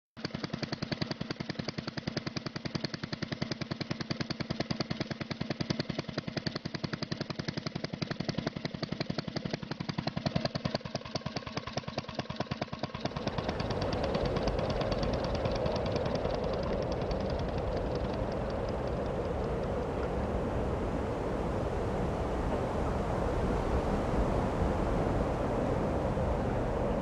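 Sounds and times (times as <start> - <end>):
engine running with rapid beat: 0.2 - 27.0.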